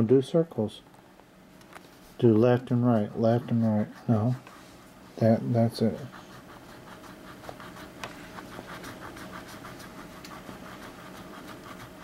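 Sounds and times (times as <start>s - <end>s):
crayon scratching on paper: 2.2s - 12.0s.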